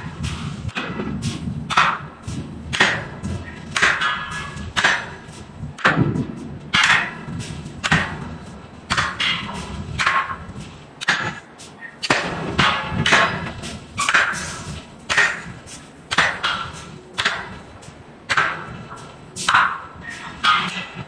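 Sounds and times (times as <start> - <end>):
forging hammer striking steel: 0.0 - 21.0.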